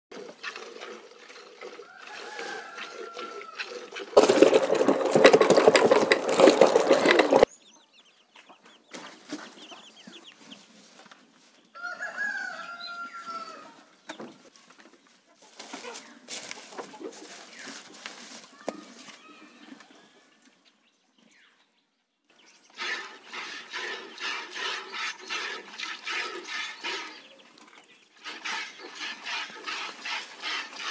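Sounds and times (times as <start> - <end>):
chickens calling: 0.1 - 20.8, 22.4 - 30.9.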